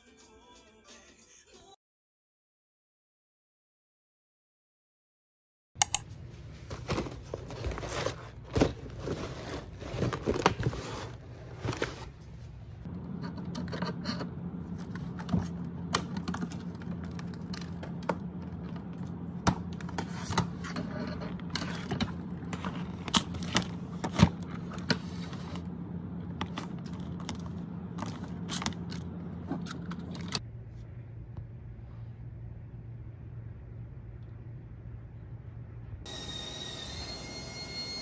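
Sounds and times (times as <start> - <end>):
steady low hum: 5.8 - 37.6.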